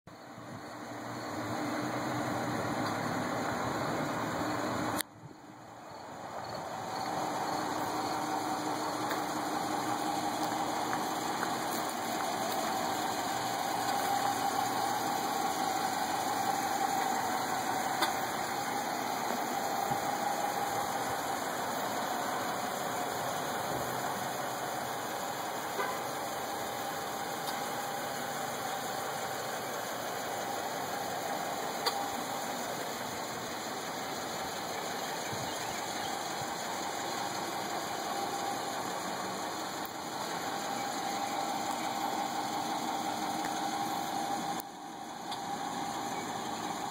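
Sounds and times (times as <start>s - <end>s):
car engine idling: 0.1s - 46.9s.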